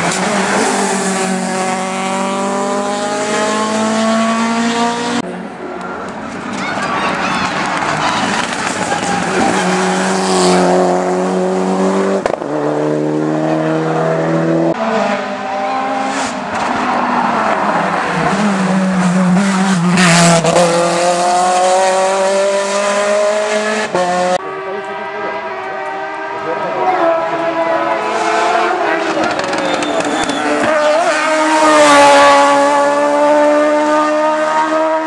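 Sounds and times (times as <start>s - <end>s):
race car engine revving: 0.0s - 5.3s, 7.6s - 35.0s.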